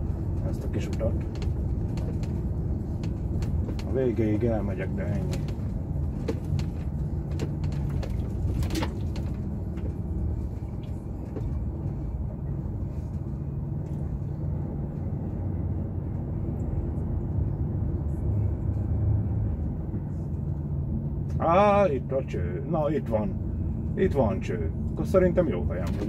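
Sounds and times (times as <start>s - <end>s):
diesel truck engine rumble: 0.0s - 26.0s
road noise: 0.0s - 26.0s.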